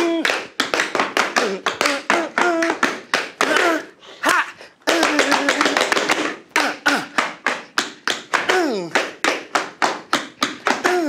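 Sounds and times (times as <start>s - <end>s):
tap shoes on a dance board: 0.0s - 3.9s, 4.8s - 11.0s.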